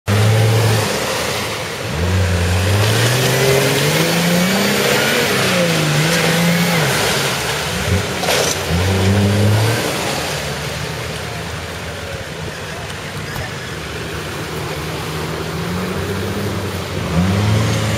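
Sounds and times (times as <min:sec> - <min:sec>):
off-road vehicle engine revving: 0:00.0 - 0:17.9.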